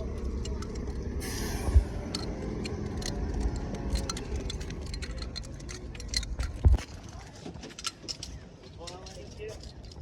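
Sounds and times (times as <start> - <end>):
light ticks and rattles: 0.0 - 1.2, 2.1 - 10.0
bus engine uneven rumble: 0.0 - 9.8.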